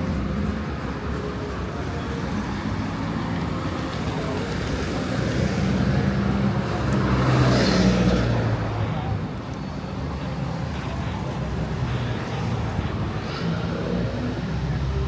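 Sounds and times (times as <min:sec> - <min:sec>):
passing vehicle engines: 0:00.0 - 0:15.0.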